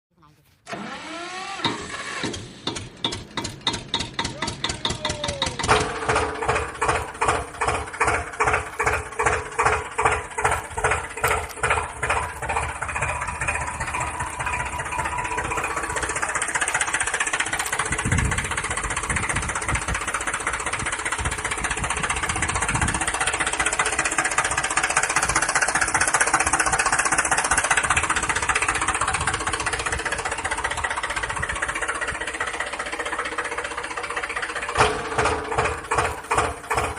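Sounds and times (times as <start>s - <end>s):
engine chugging: 0.6s - 36.9s
steady whine: 5.5s - 36.8s.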